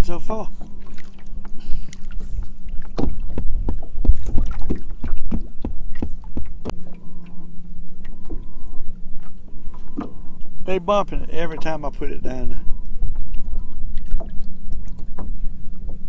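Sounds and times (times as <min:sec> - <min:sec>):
low wind rumble: 0:00.0 - 0:16.0
steady low hum: 0:00.0 - 0:16.0
water slapping boat hull: 0:00.0 - 0:16.0.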